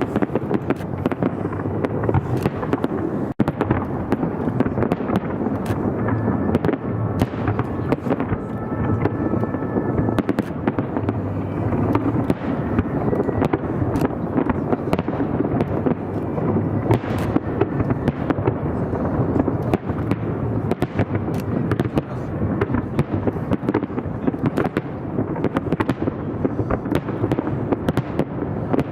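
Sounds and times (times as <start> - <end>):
rumble of firework bursts: 0.0 - 28.9
sharp firework bangs and crackles: 0.0 - 28.9.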